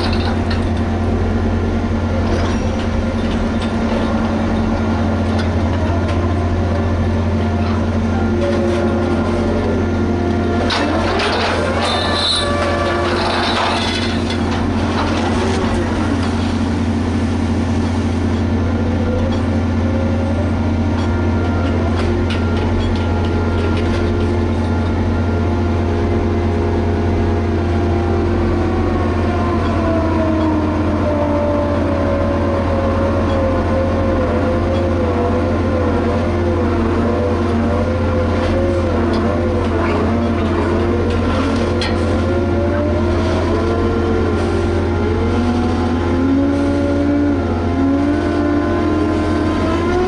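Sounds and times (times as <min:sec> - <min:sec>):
dragline engine drone: 0:00.0 - 0:50.0.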